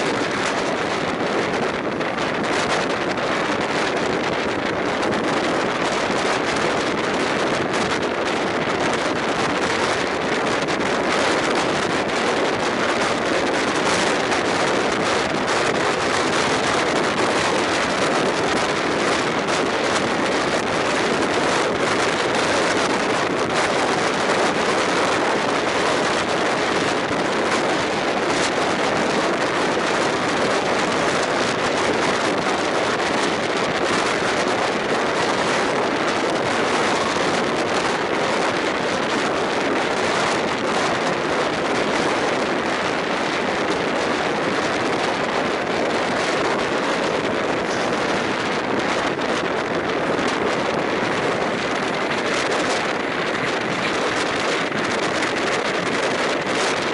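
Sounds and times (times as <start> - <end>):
train wheels rolling on rails: 0.0 - 56.9
wind rushing over microphone: 0.0 - 56.9.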